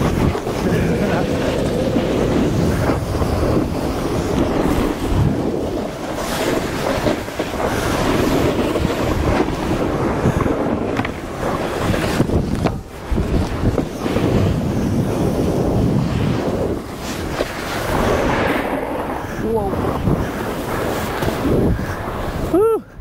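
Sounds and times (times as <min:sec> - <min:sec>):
snowboard carving on snow: 0:00.0 - 0:23.0
wind buffeting microphone: 0:00.0 - 0:23.0.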